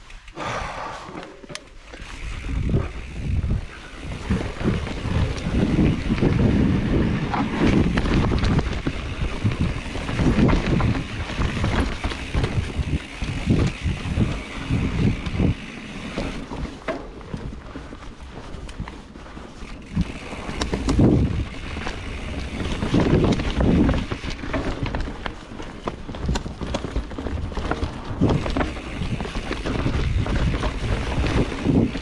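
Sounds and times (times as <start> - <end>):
bike tyre rumble on dirt: 0.4 - 32.0
bike knocks and rattles: 1.2 - 32.0
wind buffeting microphone: 2.0 - 32.0.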